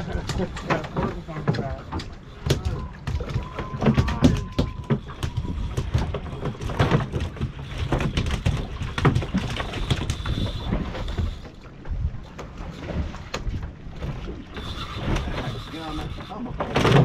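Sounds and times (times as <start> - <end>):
fishing reels clicking and knocking: 0.0 - 11.7, 14.4 - 17.0
wind and water rumble: 0.0 - 17.0.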